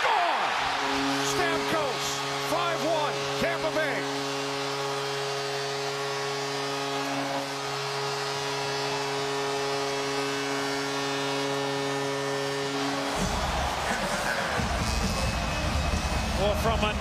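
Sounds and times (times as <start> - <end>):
arena goal horn: 0.0 - 17.0
crowd cheering: 0.0 - 17.0.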